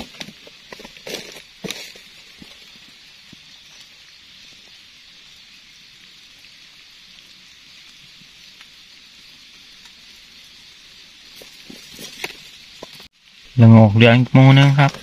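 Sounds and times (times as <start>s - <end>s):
insect chorus hiss: 0.0s - 15.0s.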